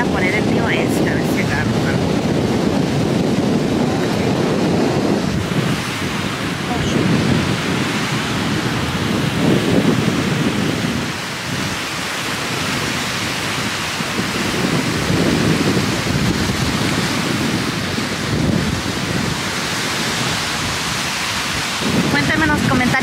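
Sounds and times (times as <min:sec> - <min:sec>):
waves breaking on stony shore: 0:00.0 - 0:23.0
wind buffeting microphone: 0:00.0 - 0:23.0.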